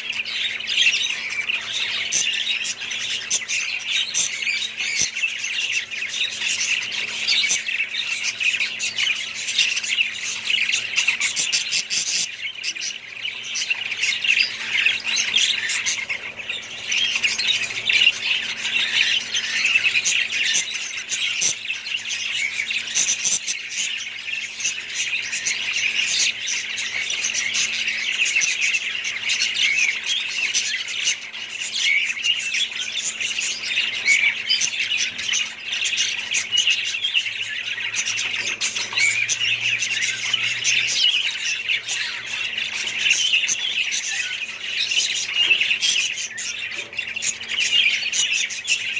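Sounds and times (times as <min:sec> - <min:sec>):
budgerigars chattering and chirping: 0:00.0 - 0:48.9.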